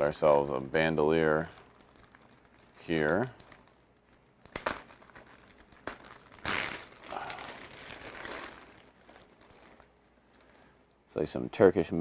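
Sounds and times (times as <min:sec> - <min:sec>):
packing material crinkling: 0:00.0 - 0:10.8.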